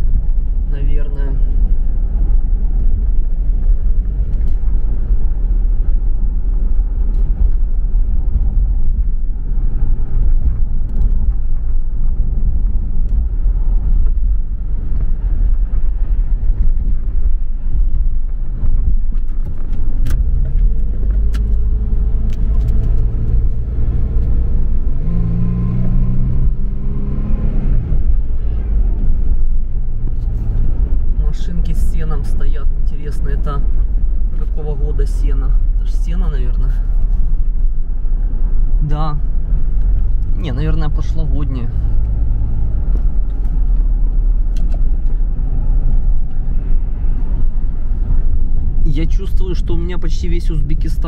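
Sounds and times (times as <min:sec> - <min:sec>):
car cabin road and engine rumble: 0:00.0 - 0:51.0.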